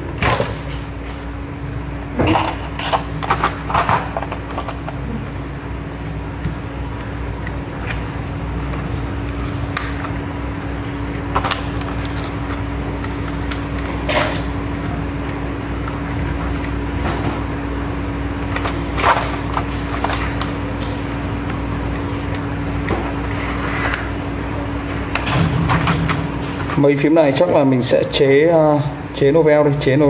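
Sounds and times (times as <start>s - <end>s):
background hum and hiss: 0.0s - 30.0s.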